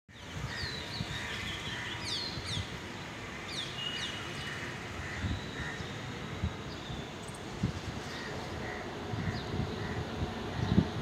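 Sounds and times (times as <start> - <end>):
birds chirping: 0.1 - 11.0
outdoor background noise: 0.1 - 11.0.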